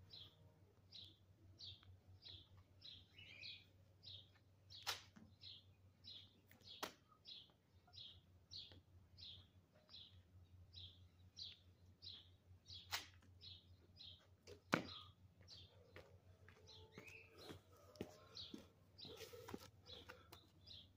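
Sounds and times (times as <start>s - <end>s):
small bird chirping: 0.0s - 16.1s, 16.7s - 20.9s.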